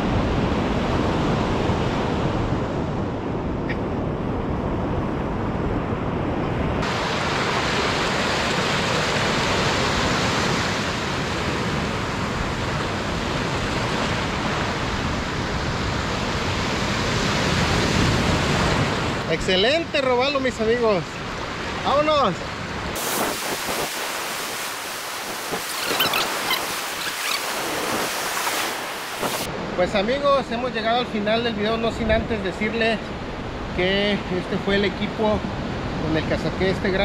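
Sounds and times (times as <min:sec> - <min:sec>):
ocean waves breaking: 0:00.0 - 0:36.6.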